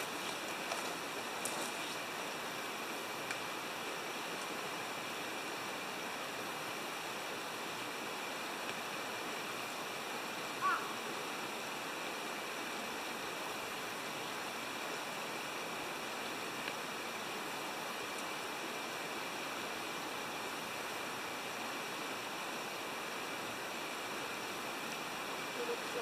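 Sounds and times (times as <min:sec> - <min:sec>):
water flowing: 0:00.0 - 0:26.0.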